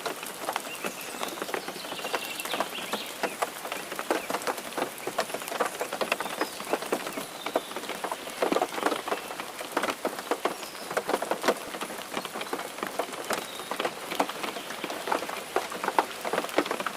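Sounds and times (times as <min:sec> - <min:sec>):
rain falling: 0:00.0 - 0:16.9
raindrops striking a surface: 0:00.0 - 0:16.9.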